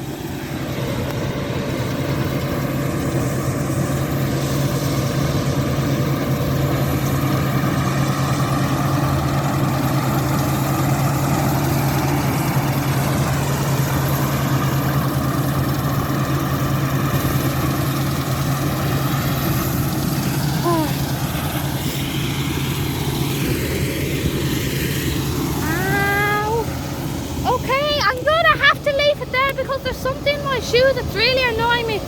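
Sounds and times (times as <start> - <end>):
combine harvester engine drone: 0.0 - 32.0.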